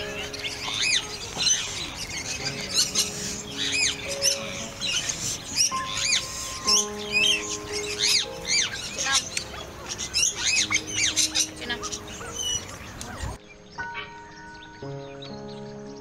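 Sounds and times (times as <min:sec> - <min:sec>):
birds chirping and squawking: 0:00.0 - 0:16.0.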